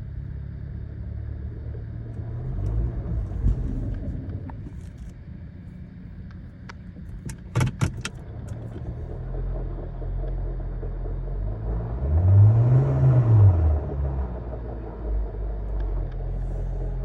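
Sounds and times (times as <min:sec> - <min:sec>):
low hum rising and falling: 0:00.0 - 0:07.2, 0:08.2 - 0:17.0
car engine humming: 0:00.0 - 0:17.0.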